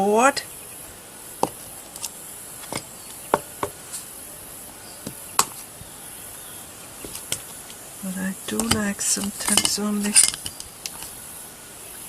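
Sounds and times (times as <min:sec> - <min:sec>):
high insect chirr: 0:00.0 - 0:12.0.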